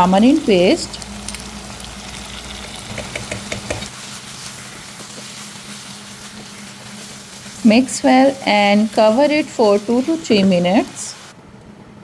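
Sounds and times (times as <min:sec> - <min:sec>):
curry sizzling in a pan: 0:00.0 - 0:11.3.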